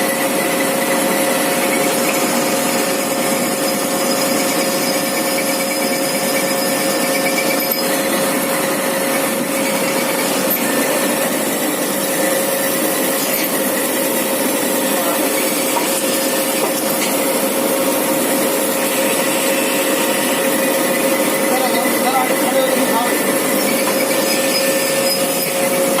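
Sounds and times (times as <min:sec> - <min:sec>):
lathe cutting hiss: 0:00.0 - 0:26.0
machine hum: 0:00.0 - 0:26.0.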